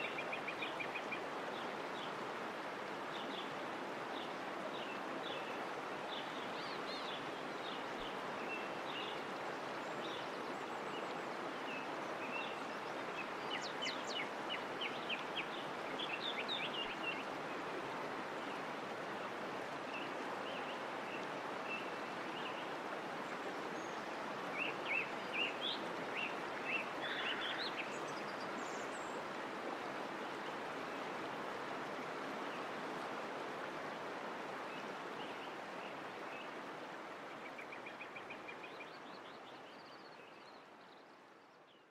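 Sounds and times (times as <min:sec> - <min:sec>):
running water: 0:00.0 - 0:40.2.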